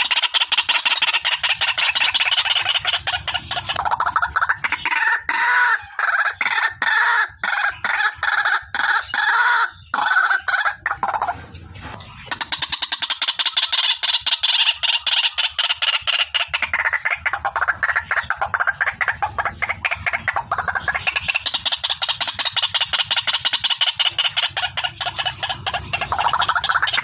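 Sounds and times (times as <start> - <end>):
waterhen harsh calls: 0.0 - 27.0.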